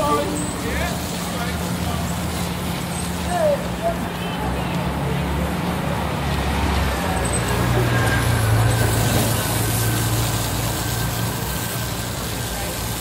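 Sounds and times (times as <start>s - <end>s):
constant hiss: 0.0s - 5.8s, 7.4s - 13.0s
engine drone: 0.0s - 13.0s.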